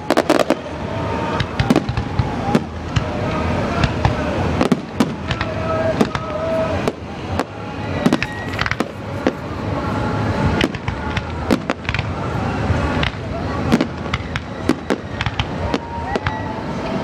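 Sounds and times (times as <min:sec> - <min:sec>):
fireworks crackle and rumble: 0:00.0 - 0:17.0.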